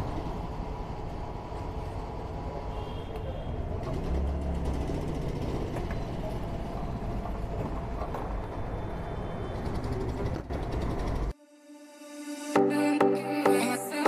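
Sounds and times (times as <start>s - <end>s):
engines and traffic noise: 0.0s - 11.4s.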